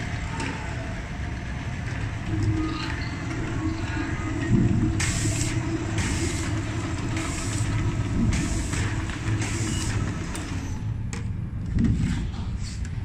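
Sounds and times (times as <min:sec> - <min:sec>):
labeling machine humming: 0:00.0 - 0:11.0.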